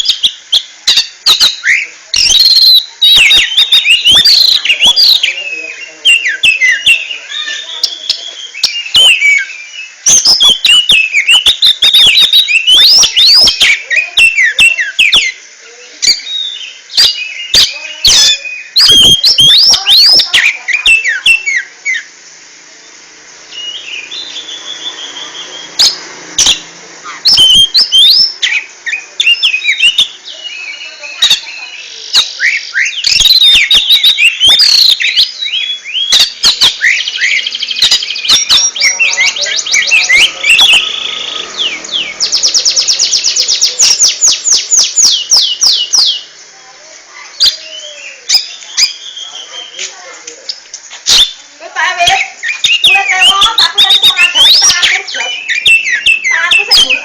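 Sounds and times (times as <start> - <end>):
bird singing chirps and whistles: 0.0 - 22.1, 23.5 - 46.3, 47.3 - 57.0.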